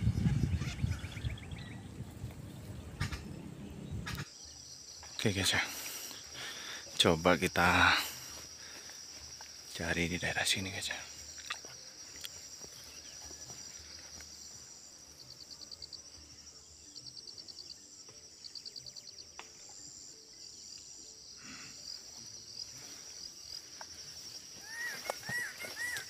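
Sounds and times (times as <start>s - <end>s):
insect trills: 0.0s - 26.0s
insects chorus: 0.0s - 26.0s.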